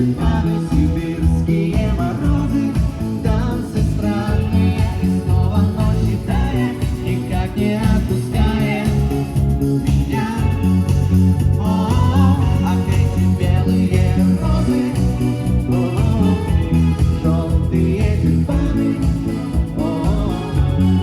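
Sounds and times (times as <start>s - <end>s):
lead singer singing: 0.0s - 21.0s
pop-rock band playing: 0.0s - 21.0s.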